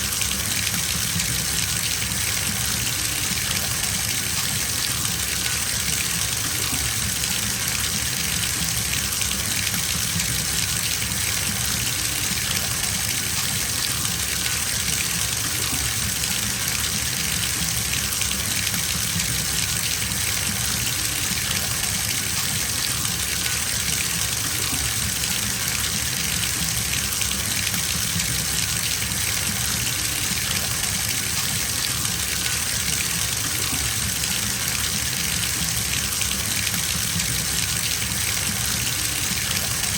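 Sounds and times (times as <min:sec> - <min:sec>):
water running into bathtub: 0:00.0 - 0:39.9.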